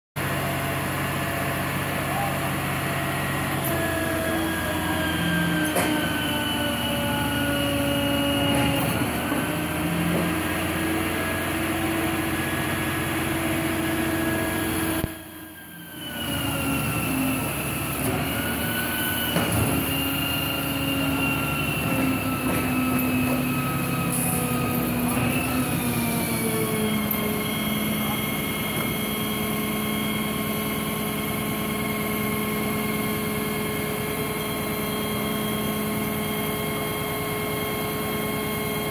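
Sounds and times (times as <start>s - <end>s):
garbage truck engine and hydraulic whine: 0.2s - 38.9s.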